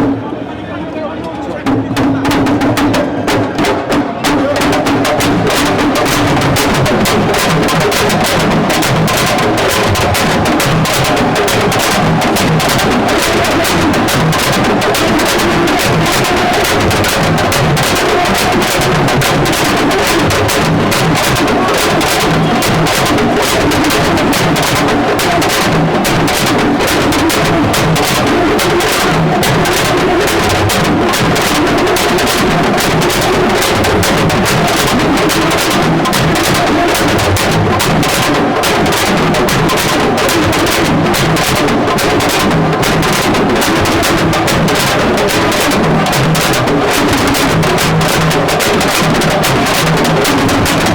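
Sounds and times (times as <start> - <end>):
music with fast dense drumming: 0.0 - 0.3, 1.6 - 50.9.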